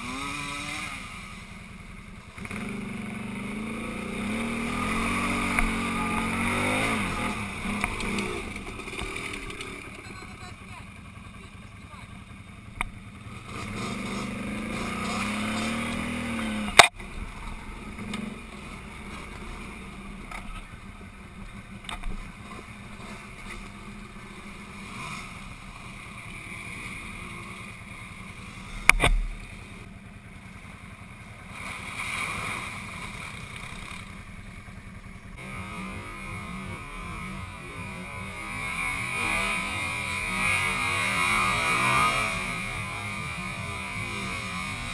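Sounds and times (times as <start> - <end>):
atv engines revving: 0.0 - 44.9.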